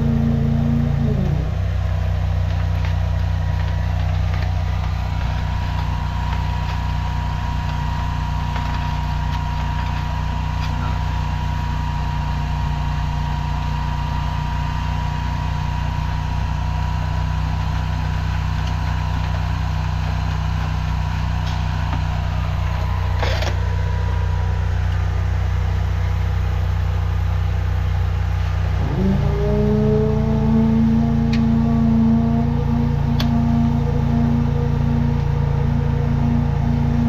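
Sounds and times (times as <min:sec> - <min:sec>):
drain jetter engine and pump running: 0:00.0 - 0:37.0.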